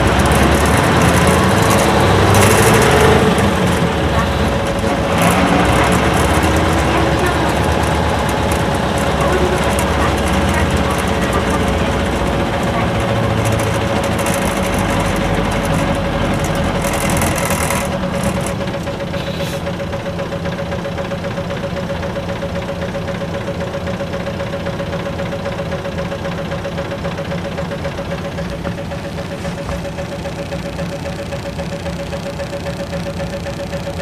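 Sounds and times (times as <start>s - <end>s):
bus road noise: 0.0s - 34.0s
constant whine: 0.0s - 34.0s
diesel engine idling: 0.0s - 34.0s.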